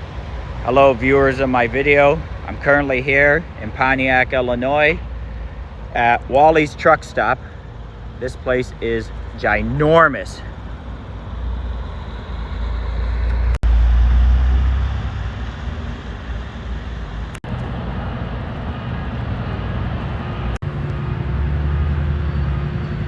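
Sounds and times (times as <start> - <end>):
faint engine hum: 0.0 - 23.0
traffic low rumble: 0.0 - 23.0.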